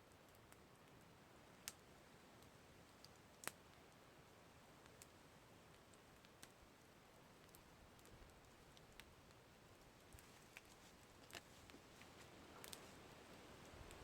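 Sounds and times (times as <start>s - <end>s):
soft steady hiss: 0.0s - 14.0s
campfire crackling and popping: 0.1s - 14.0s.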